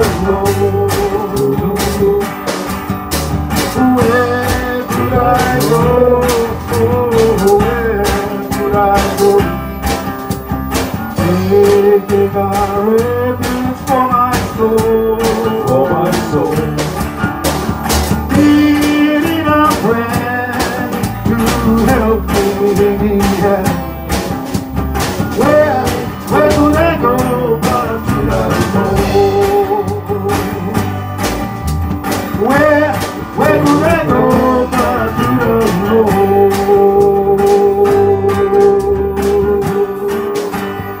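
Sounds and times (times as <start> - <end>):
acoustic guitar: 0.0 - 41.0.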